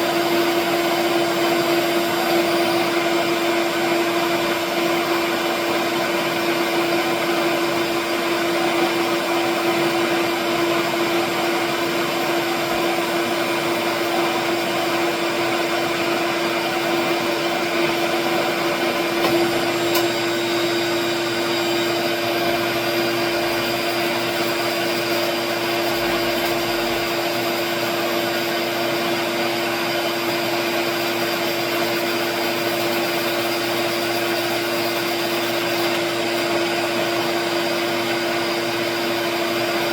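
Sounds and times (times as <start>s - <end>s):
shop vacuum running: 0.0s - 39.9s
wood lathe spinning: 0.0s - 39.9s.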